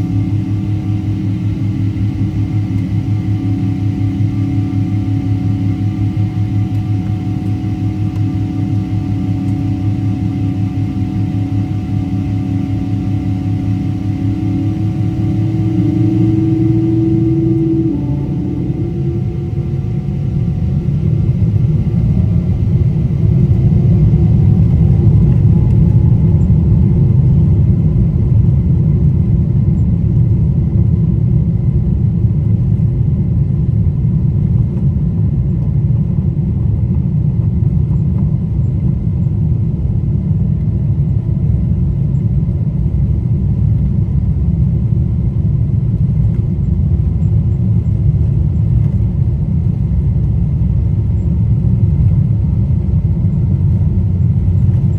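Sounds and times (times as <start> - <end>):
jet engines at takeoff power: 0.0 - 54.9.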